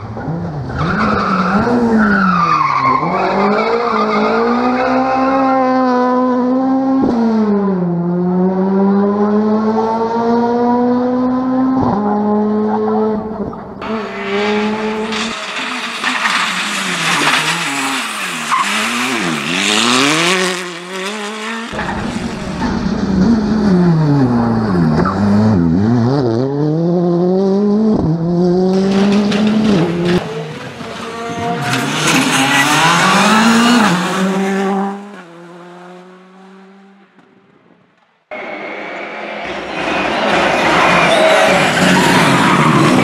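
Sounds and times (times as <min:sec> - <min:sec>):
rally car engines revving: 0:00.0 - 0:37.5, 0:38.3 - 0:43.0.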